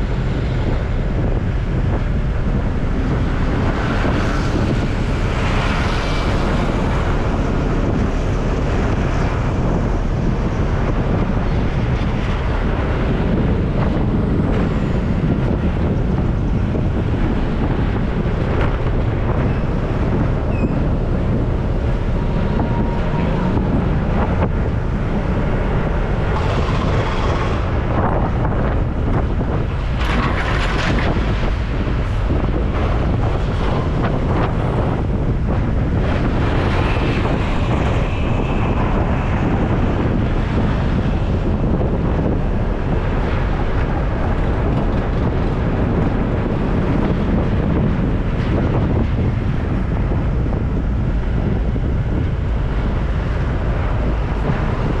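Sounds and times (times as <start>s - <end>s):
road and traffic noise: 0.0s - 55.0s
wind buffeting microphone: 0.0s - 55.0s.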